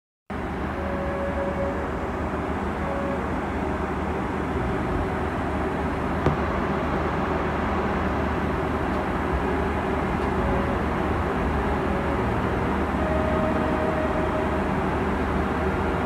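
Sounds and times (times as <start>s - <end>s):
jet engine cabin rumble: 0.3s - 16.0s.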